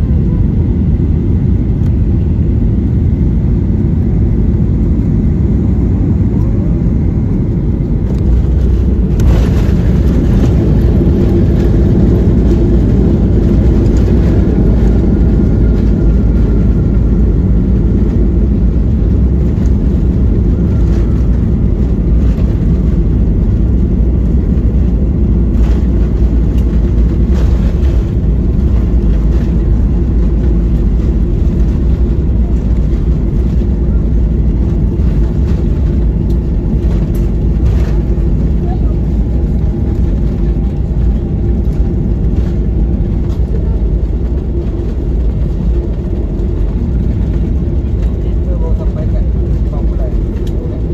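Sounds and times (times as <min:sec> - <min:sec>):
tyre and engine rumble: 0:00.1 - 0:50.9.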